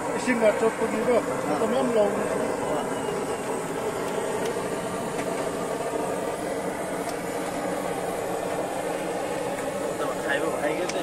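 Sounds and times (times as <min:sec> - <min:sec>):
blowtorch flame hissing: 0:00.0 - 0:11.0.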